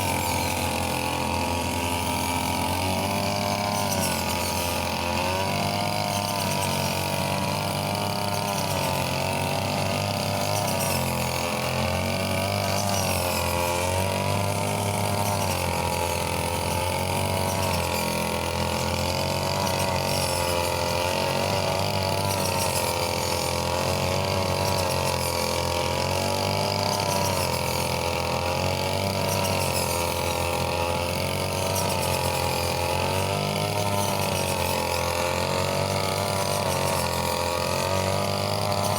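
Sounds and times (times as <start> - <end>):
brush cutter engine cutting stalks: 0.0 - 38.9.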